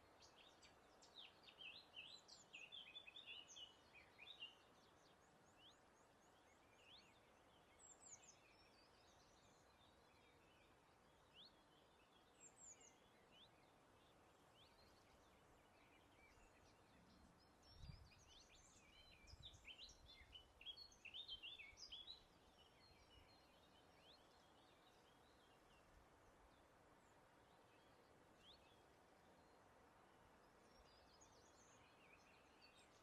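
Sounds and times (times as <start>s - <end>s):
soft steady hiss: 0.0s - 33.0s
songbirds chirping: 0.0s - 33.0s.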